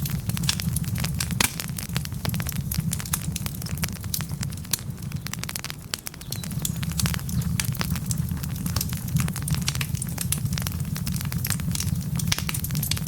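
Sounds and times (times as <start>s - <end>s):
low rumble of flames: 0.0s - 13.0s
wood fire popping and snapping: 0.0s - 13.0s.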